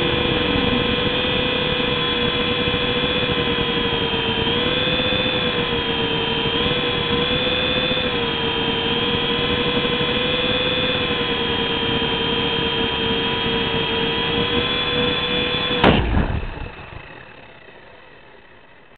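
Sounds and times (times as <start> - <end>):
toy helicopter rotor whining: 0.0 - 15.9.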